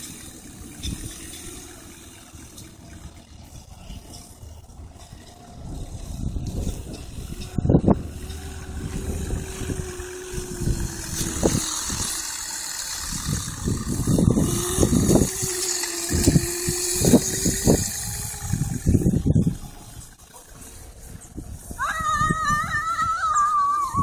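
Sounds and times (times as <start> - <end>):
low rumbling: 0.0 - 24.0
small motor humming: 0.0 - 24.0.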